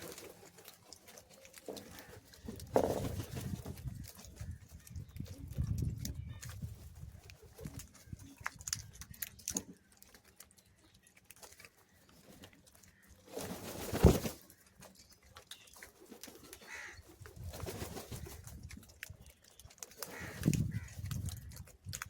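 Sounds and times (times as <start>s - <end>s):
birds tapping and rustling: 0.0s - 22.0s.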